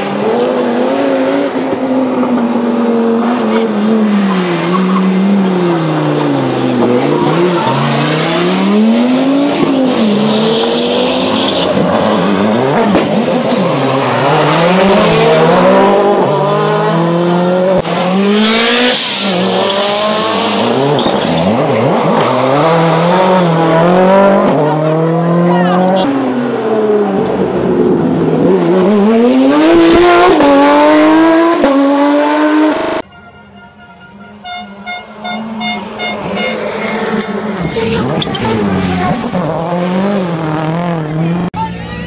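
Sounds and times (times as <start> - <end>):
rally car engine revving: 0.0 - 33.0, 35.4 - 41.6.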